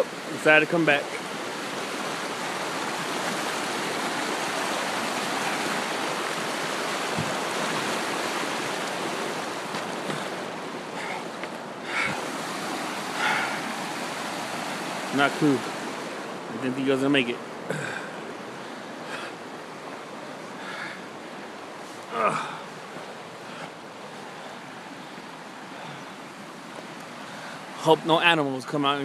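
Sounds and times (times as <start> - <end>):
stream or waterfall rushing: 0.0 - 29.0.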